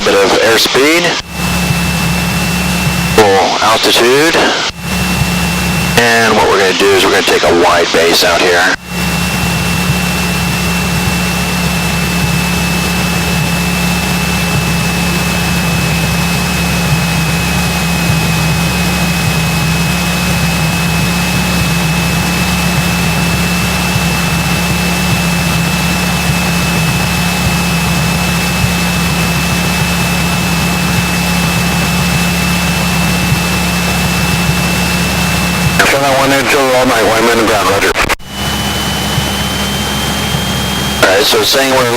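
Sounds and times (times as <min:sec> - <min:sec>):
airplane engine and propeller droning: 0:00.0 - 0:41.9
thin high whine: 0:00.0 - 0:41.9.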